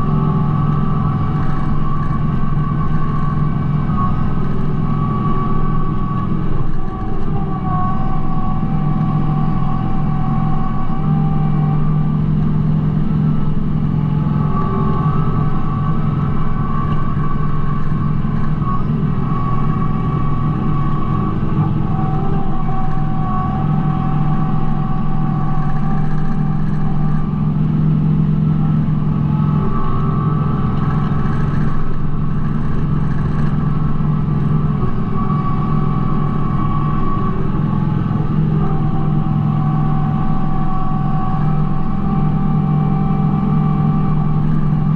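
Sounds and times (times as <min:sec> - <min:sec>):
high whining tones: 0:00.0 - 0:44.9
tractor diesel engine running: 0:00.0 - 0:44.9.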